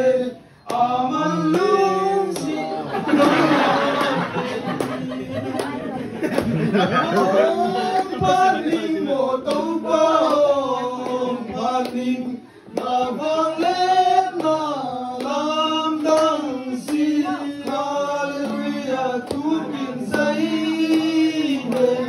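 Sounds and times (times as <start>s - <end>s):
voices singing a chant: 0.0s - 22.0s.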